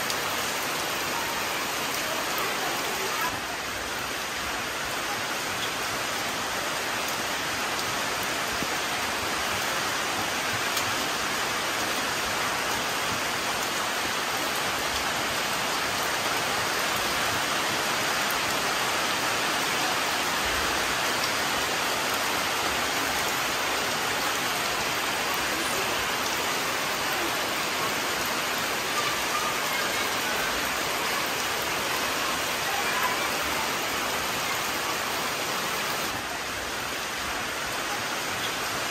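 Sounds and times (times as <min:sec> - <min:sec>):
rain on leaves: 0:00.0 - 0:38.9.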